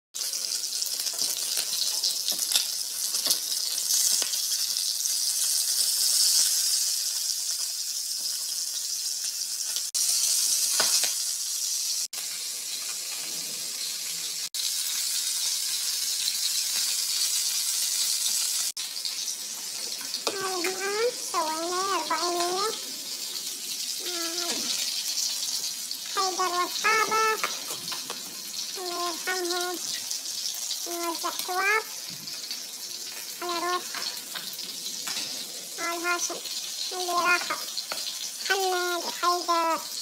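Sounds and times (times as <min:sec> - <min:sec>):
chicken sizzling in hot oil: 0:00.2 - 0:40.0.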